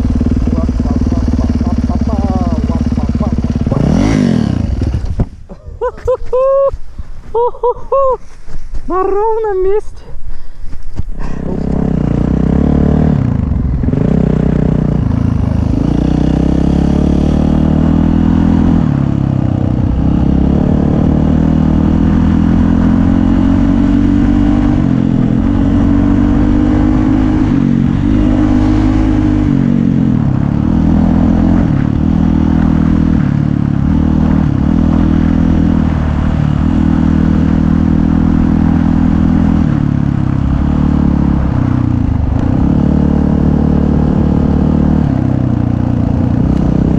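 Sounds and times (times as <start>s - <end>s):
dirt bike engine revving: 0.0s - 5.2s, 11.3s - 46.9s.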